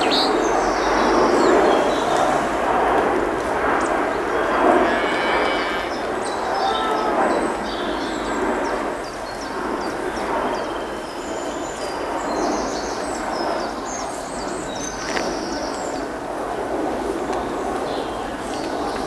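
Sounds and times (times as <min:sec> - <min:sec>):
steady rushing noise: 0:00.0 - 0:19.0
songbirds chirping: 0:03.7 - 0:19.0.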